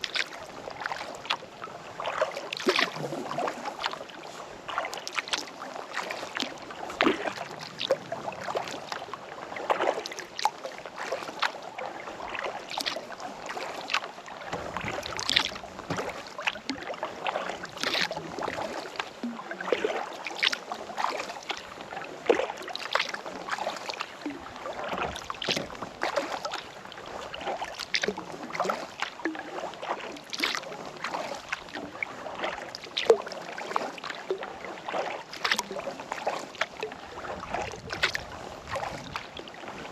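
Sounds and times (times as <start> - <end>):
kayak paddle splashing water: 0.0 - 39.9
water dripping and sloshing: 0.0 - 39.9.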